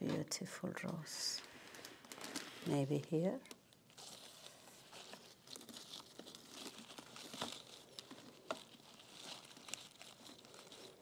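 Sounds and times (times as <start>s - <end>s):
flower stems rustling and crinkling: 0.1s - 11.0s.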